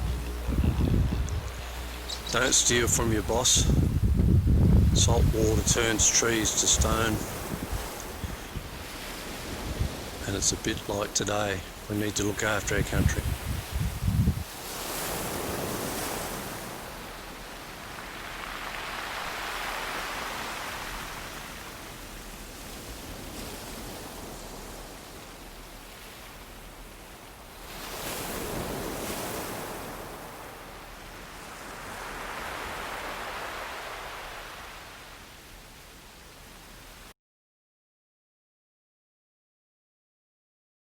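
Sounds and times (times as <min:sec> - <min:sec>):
ocean waves washing in: 0:00.0 - 0:37.1.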